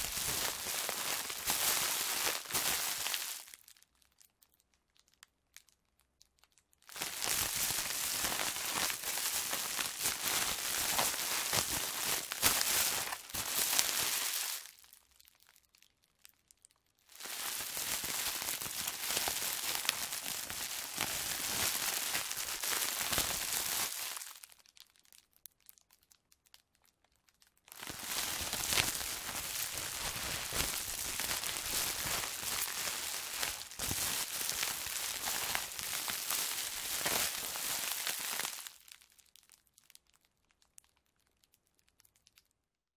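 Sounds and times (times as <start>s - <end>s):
plastic bag crinkling: 0.0s - 3.8s, 6.9s - 15.5s, 17.1s - 41.1s.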